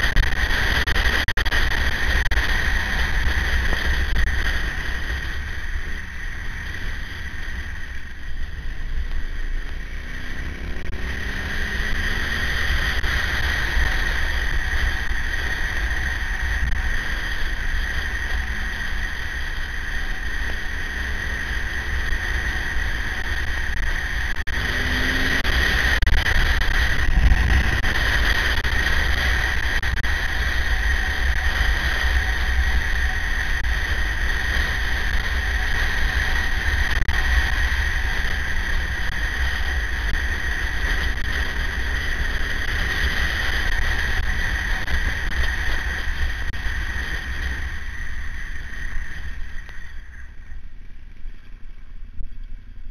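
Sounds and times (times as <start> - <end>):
motorcycle engine: 0.0 - 52.9
wind rumble on microphone: 0.0 - 52.9.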